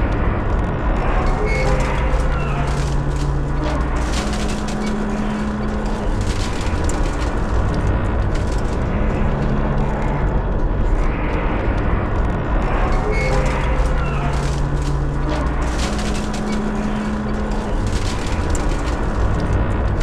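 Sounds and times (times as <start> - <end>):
low hum: 0.0 - 20.0
steady low rumble: 0.0 - 20.0
steel structure creaking and grinding: 0.0 - 20.0.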